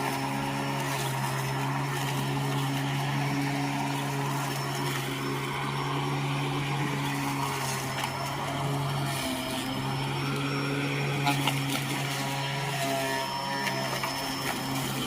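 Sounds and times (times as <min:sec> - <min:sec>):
electric lawnmower running: 0:00.0 - 0:15.0.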